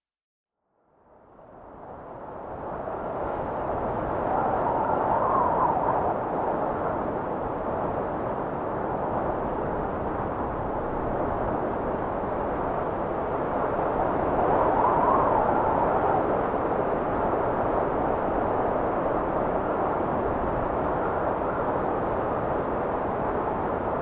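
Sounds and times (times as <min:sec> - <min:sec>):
wind blowing in gusts: 0:01.4 - 0:24.0.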